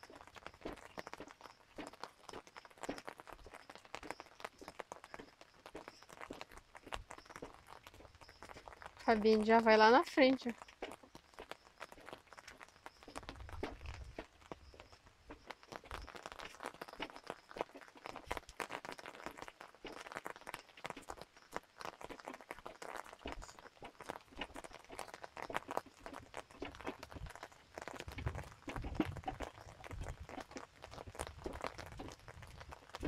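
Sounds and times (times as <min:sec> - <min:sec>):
footsteps on wet dirt path: 0:00.0 - 0:33.0.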